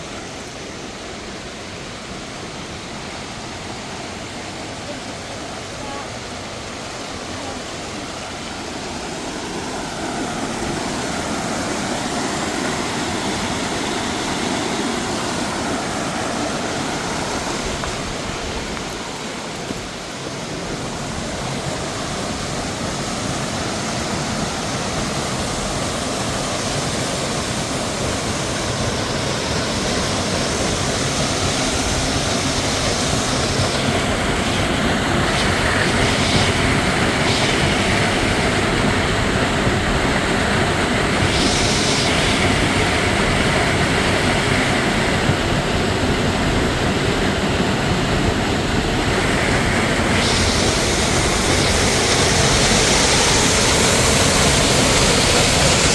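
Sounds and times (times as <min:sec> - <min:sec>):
waterfall over rocks: 0:00.0 - 0:55.9.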